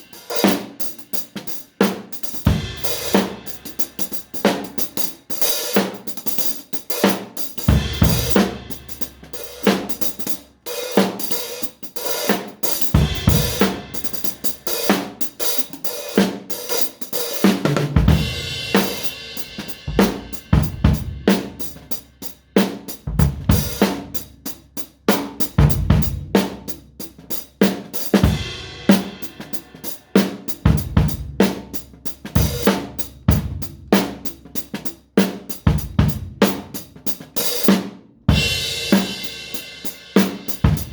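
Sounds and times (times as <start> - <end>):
drum kit playing: 0.0 - 40.9.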